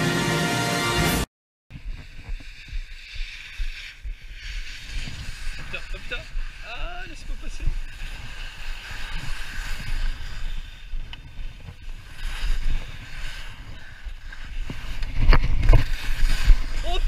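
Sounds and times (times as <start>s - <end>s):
skis scraping over snow: 1.7s - 17.0s
wind buffeting microphone: 1.7s - 17.0s.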